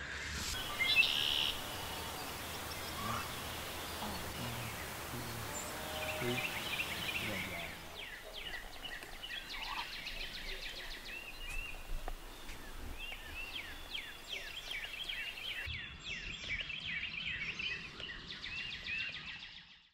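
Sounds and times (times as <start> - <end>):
songbirds chirping and whistling: 0.5 - 19.9.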